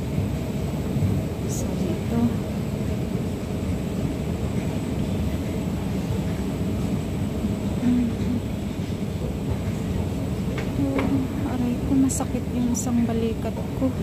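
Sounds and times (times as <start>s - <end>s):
low machinery rumble: 0.0s - 14.0s.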